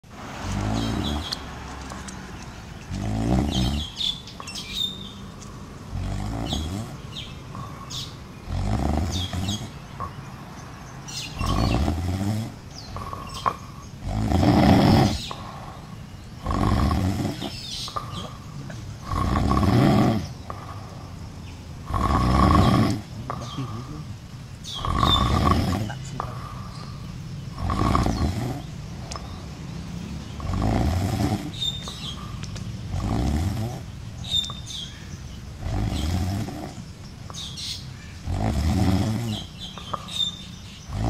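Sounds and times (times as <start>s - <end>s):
monkey snoring: 0.0s - 2.2s, 2.8s - 41.0s.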